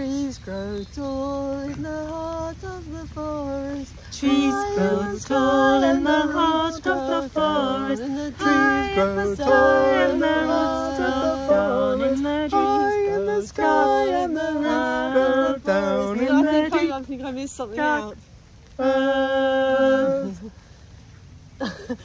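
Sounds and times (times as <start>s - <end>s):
group singing a round unaccompanied: 0.0s - 17.0s, 18.8s - 20.5s.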